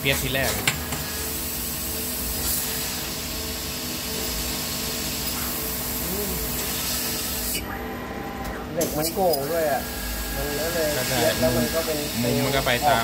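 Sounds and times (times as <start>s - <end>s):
laser cutter gas hissing: 0.0s - 7.8s, 8.8s - 13.0s
faint machine hum: 0.0s - 13.0s.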